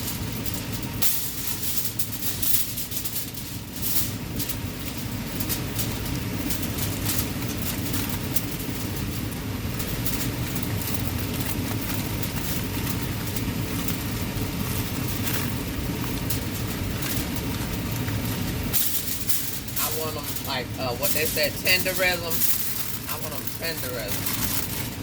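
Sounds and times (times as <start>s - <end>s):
range hood fan whooshing: 0.0s - 25.0s.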